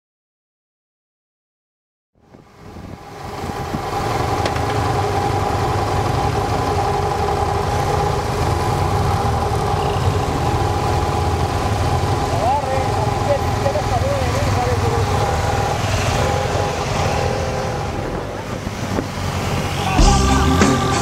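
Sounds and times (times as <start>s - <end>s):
motorcycle engines rumbling: 2.3s - 21.0s.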